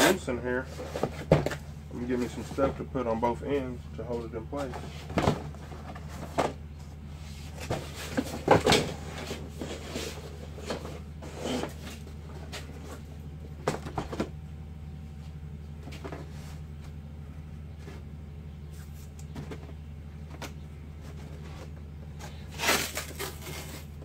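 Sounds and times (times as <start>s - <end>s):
cardboard and packing rustling: 0.0s - 14.4s, 18.8s - 24.0s
steady low hum: 0.0s - 24.0s.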